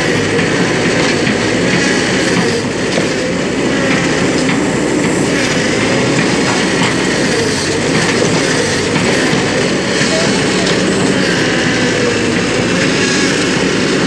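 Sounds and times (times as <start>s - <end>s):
crawler tracks clanking and squeaking: 0.0s - 14.0s
diesel engine under load: 0.0s - 14.0s.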